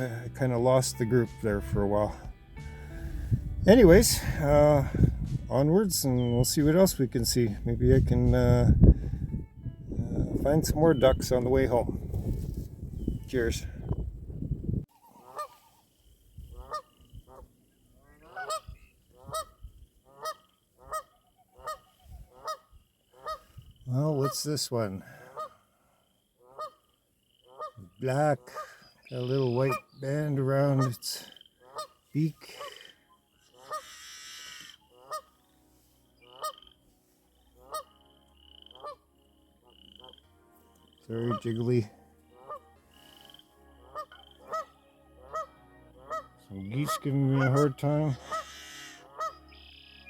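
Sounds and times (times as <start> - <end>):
geese honking: 0.0 - 8.0, 14.9 - 50.0.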